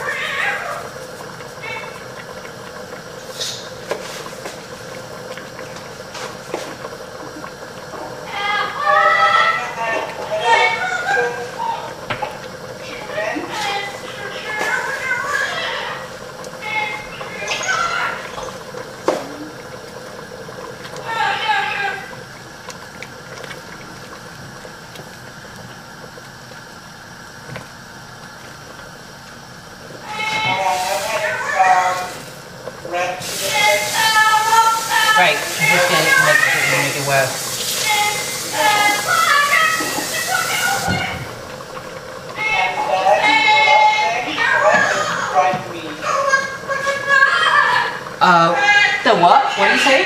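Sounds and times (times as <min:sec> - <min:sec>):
soup bubbling in a pot: 0:00.0 - 0:50.0
steady hum: 0:00.0 - 0:50.0.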